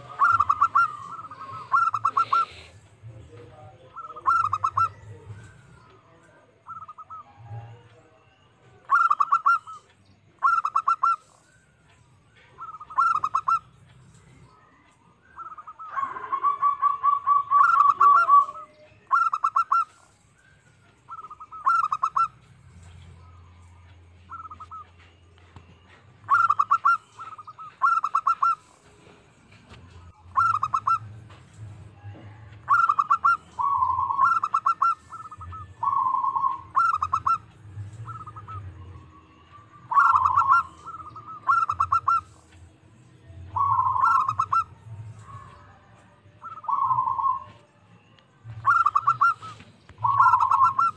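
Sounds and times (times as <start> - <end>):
dove cooing: 0.0 - 8.1, 8.7 - 11.6, 12.4 - 13.9, 15.2 - 42.6, 43.5 - 47.8, 48.4 - 50.9.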